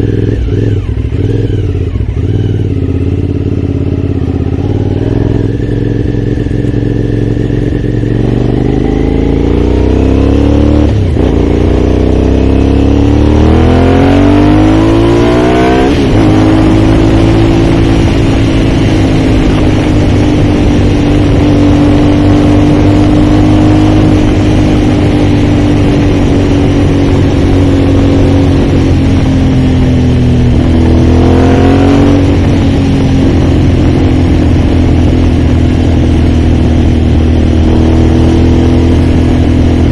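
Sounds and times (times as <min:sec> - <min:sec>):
motorcycle engine revving and shifting: 0:00.0 - 0:39.9.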